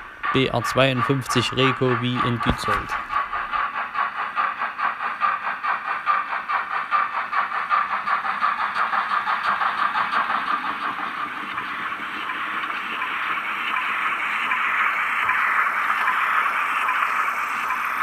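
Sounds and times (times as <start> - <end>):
model steam locomotive chuffs: 0.0 - 18.0
steady steam hiss: 0.0 - 18.0.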